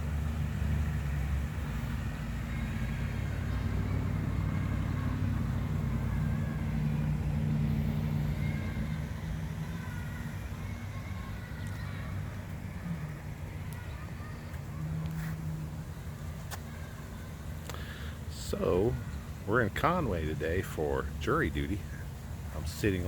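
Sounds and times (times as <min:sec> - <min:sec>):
motor vehicle engine hum: 0:00.0 - 0:23.0.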